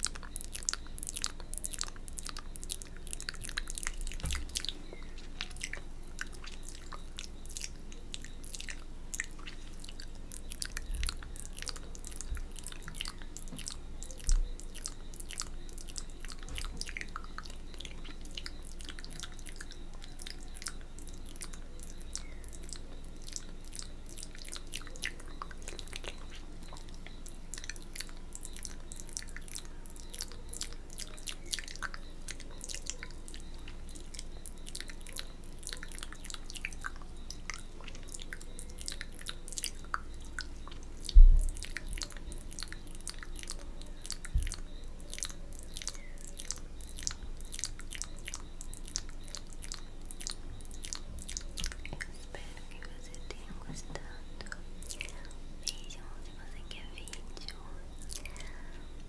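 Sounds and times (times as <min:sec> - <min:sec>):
wet mouth sounds: 0:00.0 - 0:59.0.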